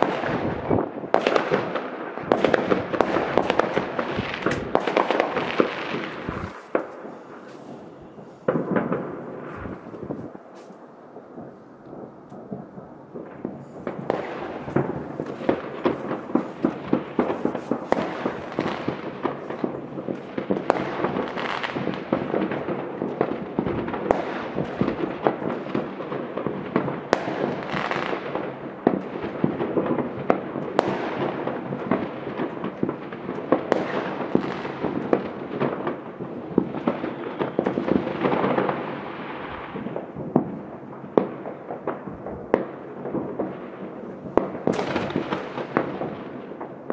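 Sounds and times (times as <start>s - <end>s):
firework bangs: 0.0s - 46.9s
fireworks crackling: 0.0s - 46.9s.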